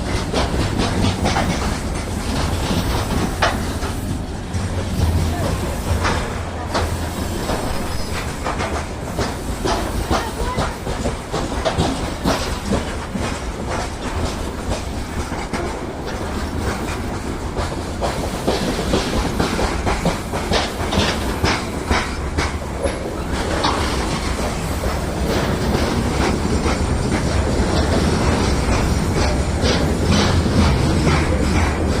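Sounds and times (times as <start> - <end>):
train wheels clattering: 0.0 - 32.0.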